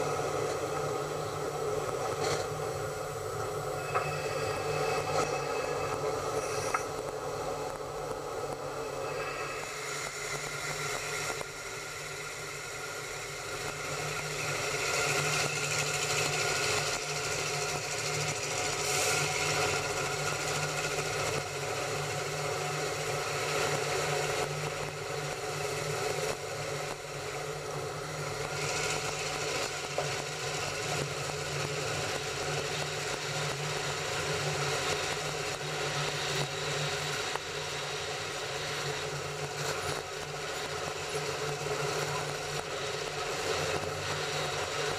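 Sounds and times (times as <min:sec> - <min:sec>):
electric train whirr and hiss: 0:00.0 - 0:44.9
steady whining tones: 0:00.0 - 0:44.9.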